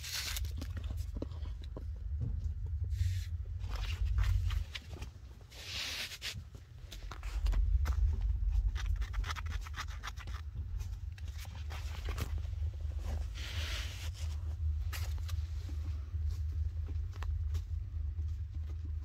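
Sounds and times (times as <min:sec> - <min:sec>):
scratching and rustling: 0:00.0 - 0:19.0
steady low hum: 0:00.0 - 0:19.0.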